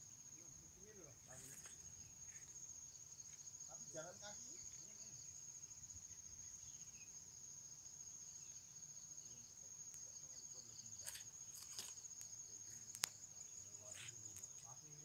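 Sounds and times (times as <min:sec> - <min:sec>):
high-pitched insect trilling: 0:00.0 - 0:15.0.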